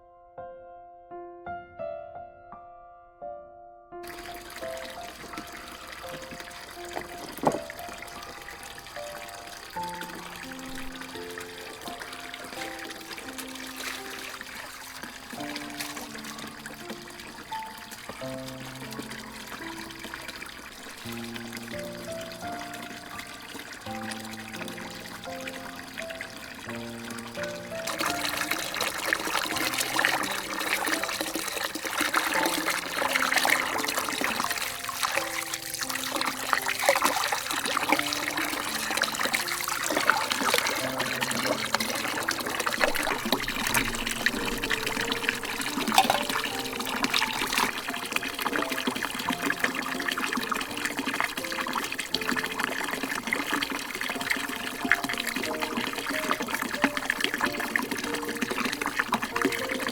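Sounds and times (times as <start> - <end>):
soft instrumental melody: 0.0 - 59.9
water trickling and splashing: 4.0 - 59.9.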